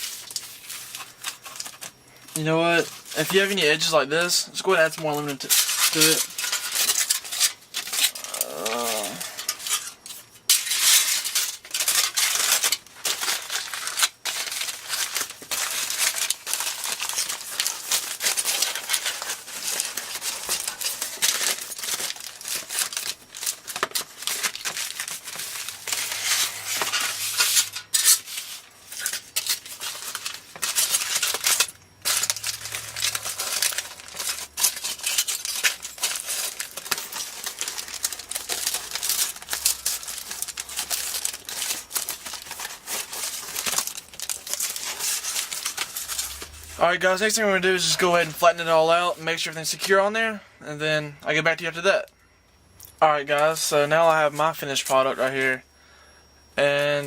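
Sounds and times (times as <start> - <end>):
aluminium foil crinkling: 0.0 - 50.1.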